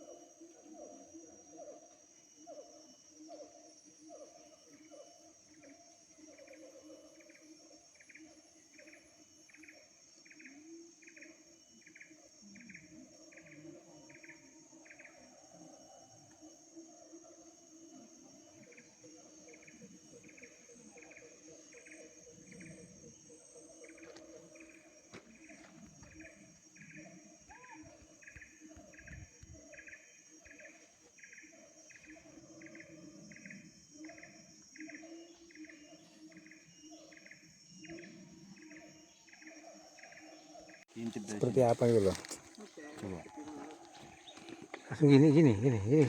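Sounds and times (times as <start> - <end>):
cricket chirping: 0.0 - 46.0
high-pitched insect hum: 0.0 - 46.0.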